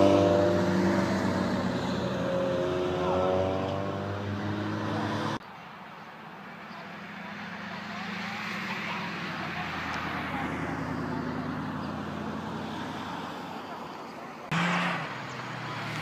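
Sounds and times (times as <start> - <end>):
car engine hum: 0.0 - 16.0
cars driving past: 0.0 - 16.0.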